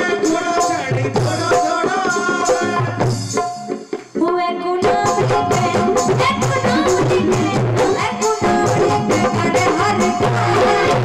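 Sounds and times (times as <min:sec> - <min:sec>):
tabla drumming: 0:00.0 - 0:11.0.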